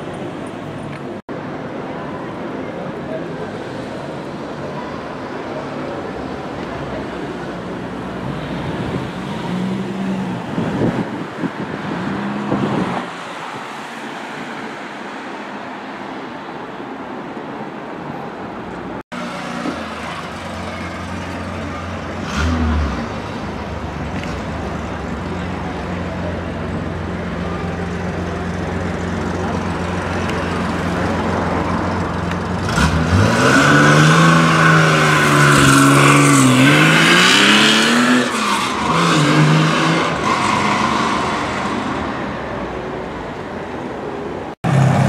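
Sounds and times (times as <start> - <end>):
passing traffic drone: 0.0 - 45.0.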